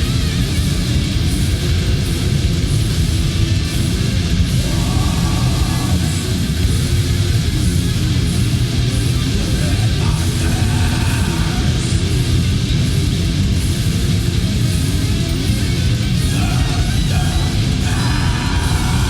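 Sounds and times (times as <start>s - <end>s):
metal music with distorted guitars: 0.0s - 19.0s.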